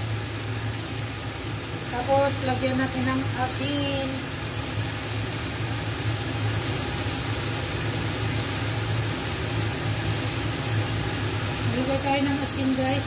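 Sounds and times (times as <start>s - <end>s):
vegetables frying in a wok: 0.0s - 13.0s.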